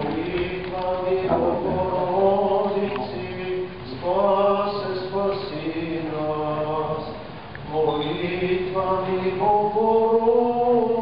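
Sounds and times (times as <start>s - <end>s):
liturgical chanting: 0.0s - 11.0s.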